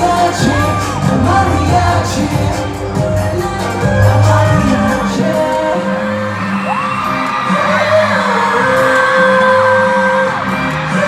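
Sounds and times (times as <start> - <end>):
crowd whooping and screaming: 0.0 - 11.0
person singing: 0.0 - 11.0
pop backing music: 0.0 - 11.0.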